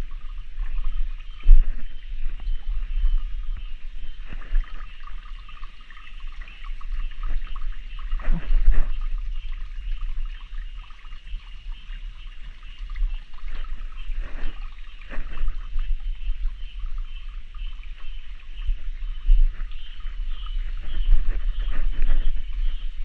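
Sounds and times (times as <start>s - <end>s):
stream water trickling: 0.0s - 23.0s.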